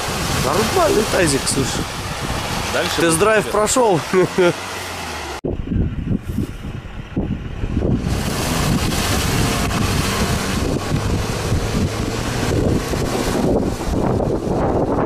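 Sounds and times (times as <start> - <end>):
car engine running: 0.0 - 15.0
wind buffeting microphone: 0.0 - 15.0.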